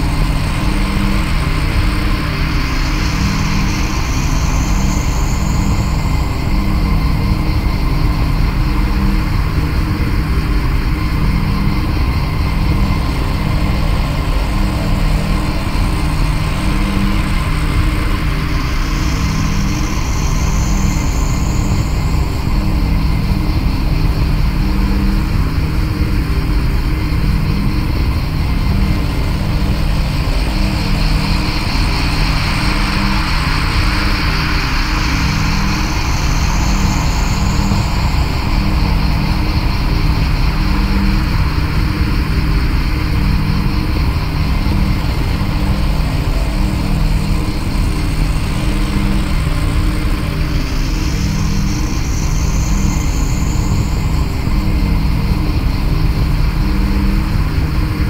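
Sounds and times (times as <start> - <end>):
ambient electronic drone music: 0.0 - 58.0.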